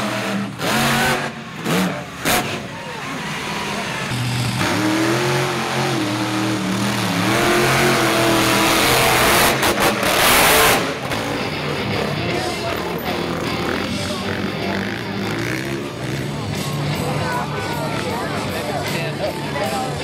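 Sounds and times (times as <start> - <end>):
truck engine revving hard: 0.0 - 18.9.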